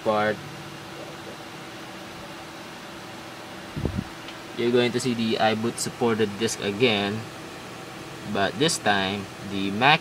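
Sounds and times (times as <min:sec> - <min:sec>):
computer fan hum and hiss: 0:00.0 - 0:10.0.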